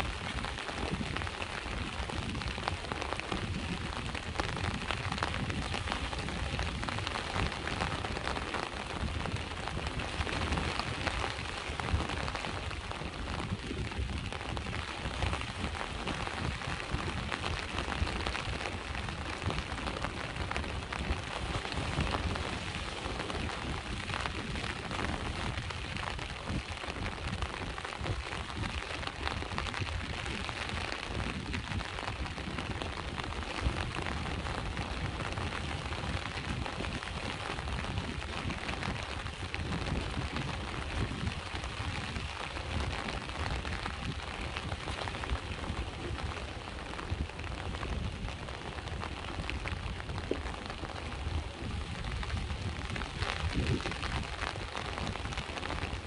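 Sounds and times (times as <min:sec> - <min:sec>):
constant low rumble: 0:00.0 - 0:56.0
rain falling: 0:00.0 - 0:56.0.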